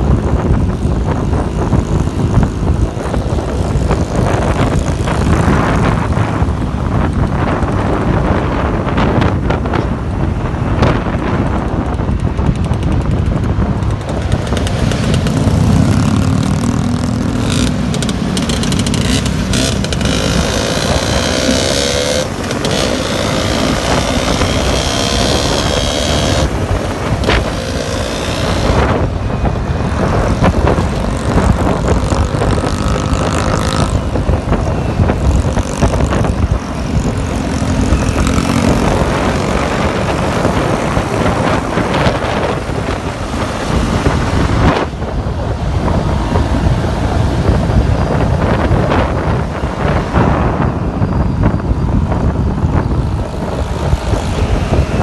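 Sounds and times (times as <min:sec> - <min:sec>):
motorbike engine running: 0:00.0 - 0:55.0
wind rush on microphone: 0:00.0 - 0:55.0.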